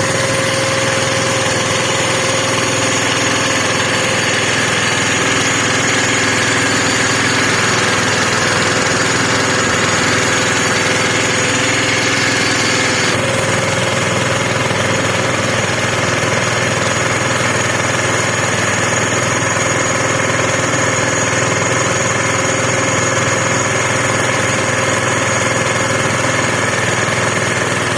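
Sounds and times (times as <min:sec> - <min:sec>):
small engine running steadily: 0:00.0 - 0:27.9.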